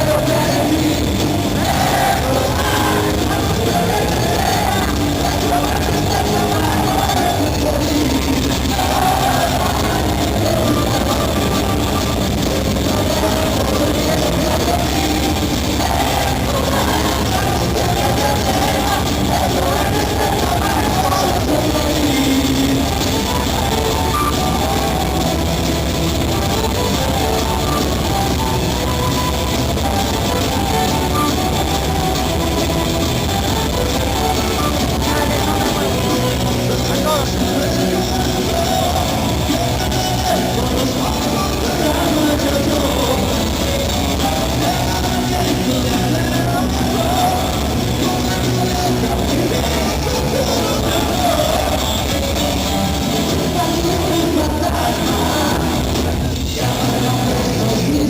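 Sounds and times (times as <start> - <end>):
heavy rock band playing: 0.0 - 58.0
person singing: 0.0 - 58.0.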